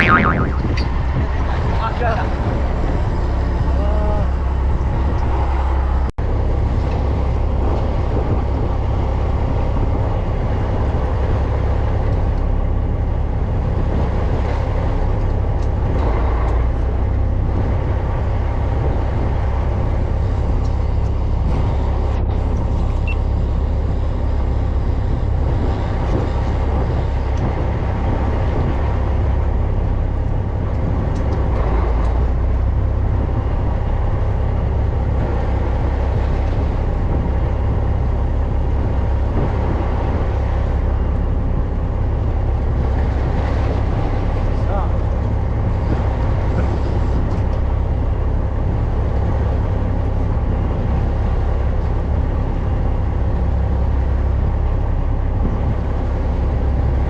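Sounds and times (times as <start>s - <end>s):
boat engine rumbling: 0.0s - 57.0s
constant rushing noise: 0.0s - 57.0s.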